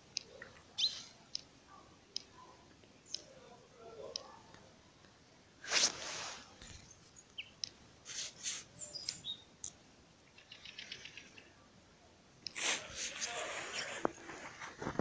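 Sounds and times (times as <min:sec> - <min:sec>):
small birds chirping: 0:00.0 - 0:05.2, 0:06.6 - 0:14.3.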